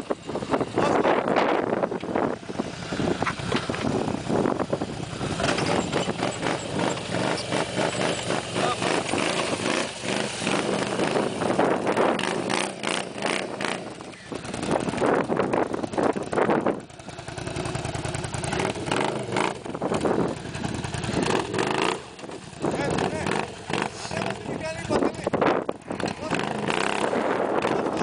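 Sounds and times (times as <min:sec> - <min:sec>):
quad bike engine revving: 0:00.0 - 0:28.0.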